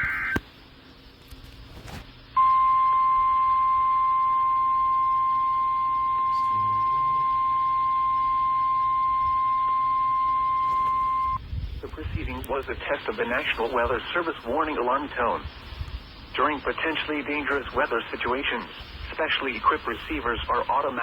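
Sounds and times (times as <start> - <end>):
steady alarm tone: 2.4 - 11.4, 12.7 - 21.0.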